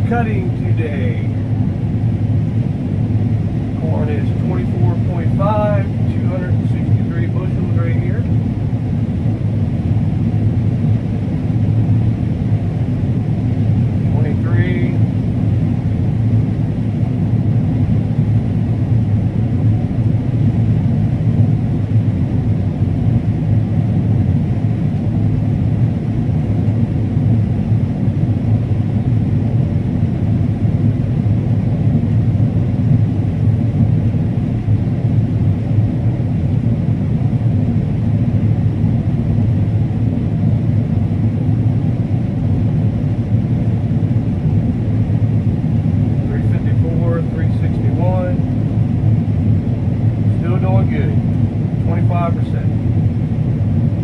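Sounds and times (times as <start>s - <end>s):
combine harvester rumble: 0.0s - 54.0s.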